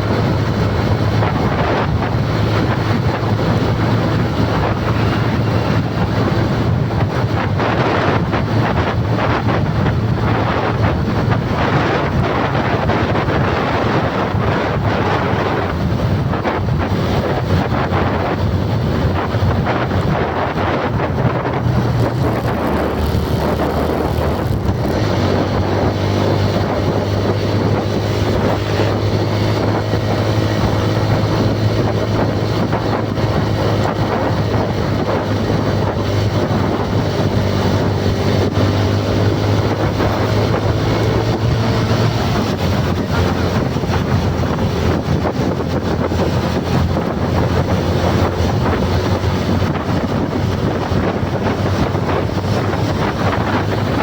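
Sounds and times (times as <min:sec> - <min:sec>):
vehicle engine running: 0:00.0 - 0:54.0
wind buffeting microphone: 0:00.0 - 0:54.0.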